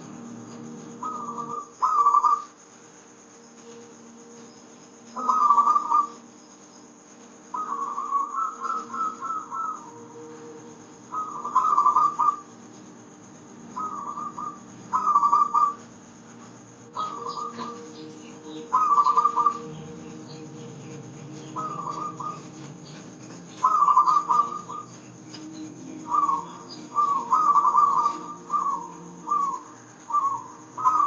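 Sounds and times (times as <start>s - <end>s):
dove cooing: 0.0s - 2.6s, 5.1s - 6.2s, 7.5s - 12.6s, 13.8s - 15.9s, 16.8s - 31.0s
soft low drone: 0.0s - 31.0s.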